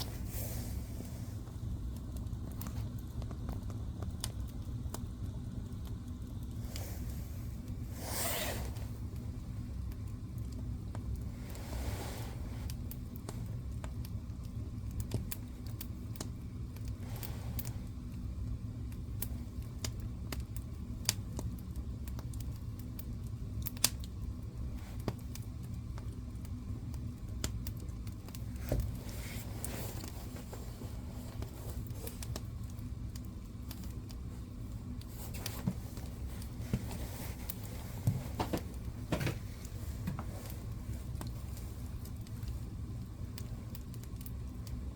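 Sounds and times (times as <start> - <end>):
low fire rumble: 0.0 - 44.9
soft hissing flare-ups: 0.0 - 44.9
wood fire crackling: 0.0 - 44.9.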